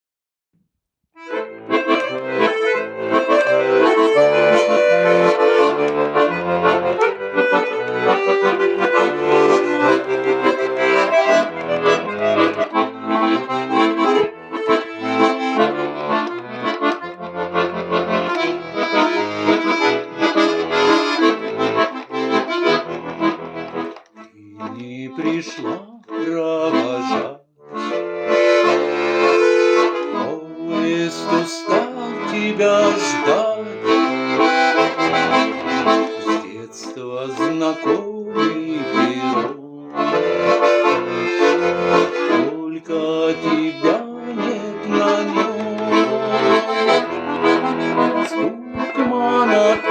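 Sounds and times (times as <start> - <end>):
button accordion playing: 1.2 - 49.9.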